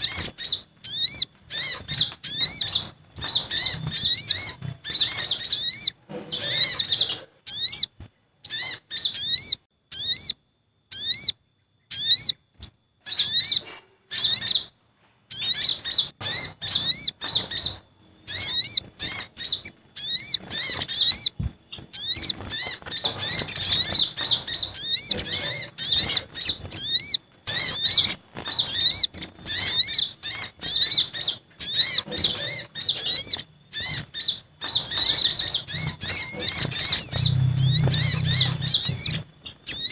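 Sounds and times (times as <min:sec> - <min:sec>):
sunbird chirps: 0:00.0 - 0:39.9.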